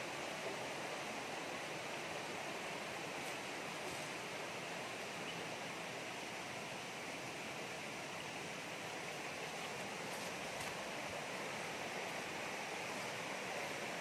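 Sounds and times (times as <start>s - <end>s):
stream flowing over stones: 0.0s - 14.0s.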